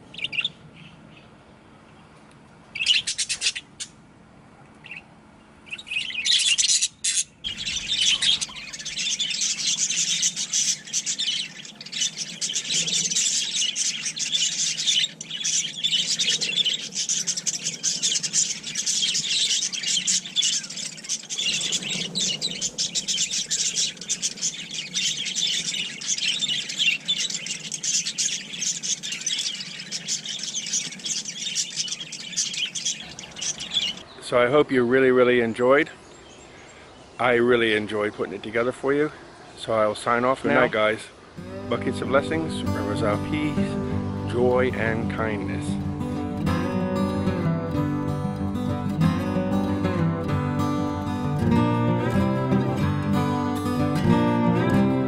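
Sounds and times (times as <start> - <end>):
budgerigars chirping and warbling: 0.0 - 1.3, 2.7 - 4.0, 4.8 - 34.6, 35.2 - 50.0.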